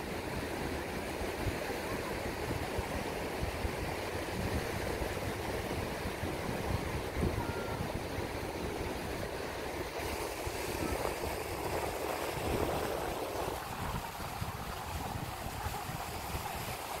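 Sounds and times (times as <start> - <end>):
surf washing on beach: 0.0 - 17.0
wind buffeting microphone: 0.0 - 17.0.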